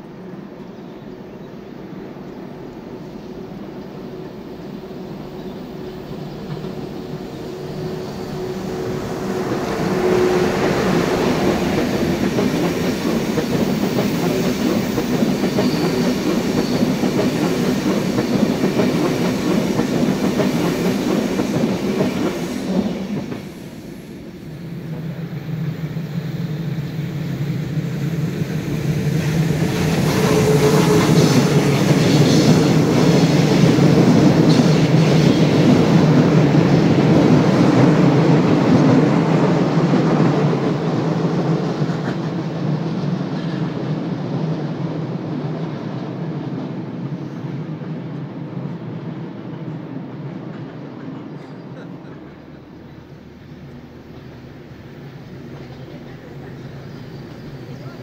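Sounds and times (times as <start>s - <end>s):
train coaches rumbling past: 0.0s - 58.0s
train rolling by: 0.0s - 58.0s.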